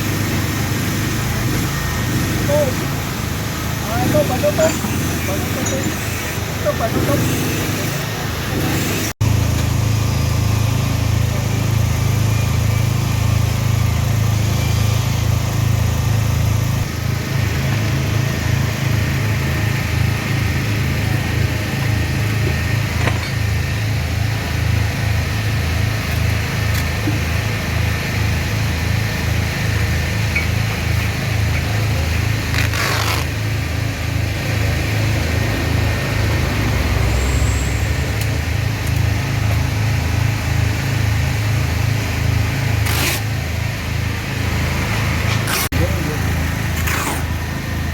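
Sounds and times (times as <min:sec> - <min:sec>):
engine throbbing: 0:00.0 - 0:47.9.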